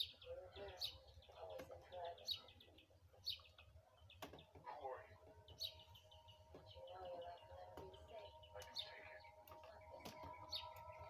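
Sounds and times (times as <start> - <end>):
faint bird chirps: 0.0 - 11.0
faint steady held tones: 0.0 - 11.0.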